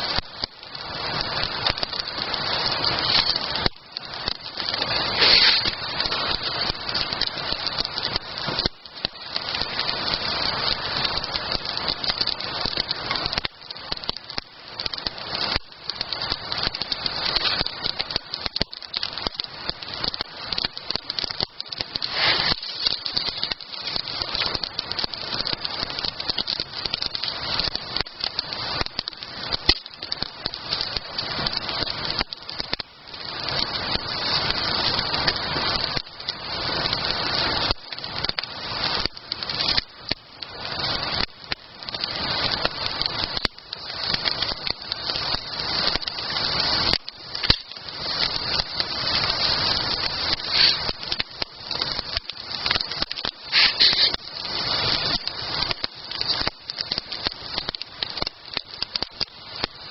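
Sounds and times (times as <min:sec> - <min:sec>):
campfire crackling and popping: 0:00.0 - 0:59.9
fire hiss: 0:00.0 - 0:59.9.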